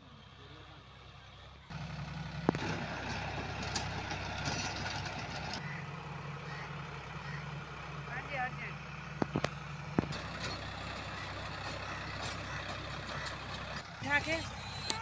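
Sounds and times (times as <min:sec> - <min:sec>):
engine hum with hiss: 0:00.0 - 0:15.0.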